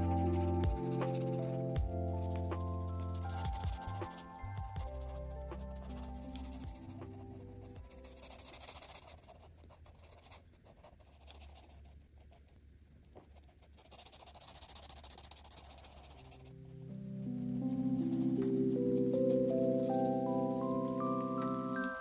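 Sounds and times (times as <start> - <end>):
marker scratching on paper: 0.0 - 16.5, 17.8 - 19.1.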